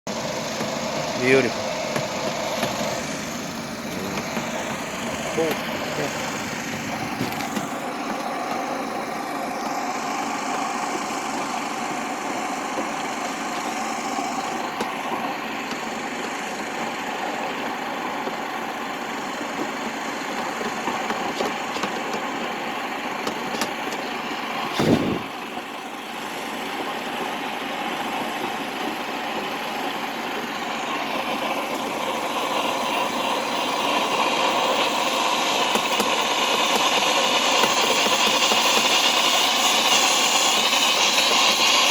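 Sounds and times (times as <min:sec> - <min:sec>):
duct cleaning machine motor hum: 0:00.1 - 0:41.9.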